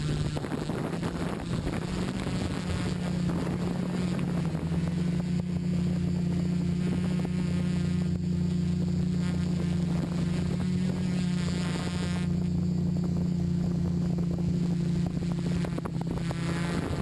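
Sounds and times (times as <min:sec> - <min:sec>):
multicopter propellers droning: 0:00.0 - 0:17.0.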